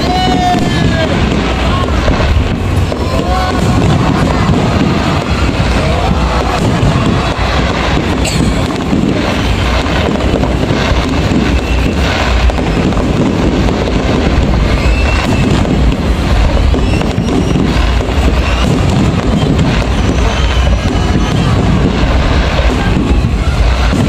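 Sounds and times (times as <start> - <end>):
fireworks bursting: 0.0 - 24.0
fireworks crackling: 0.0 - 24.0.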